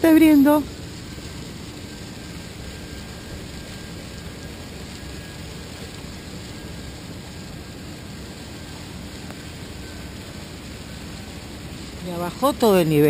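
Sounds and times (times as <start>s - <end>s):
water rushing from pipe: 0.0s - 13.0s.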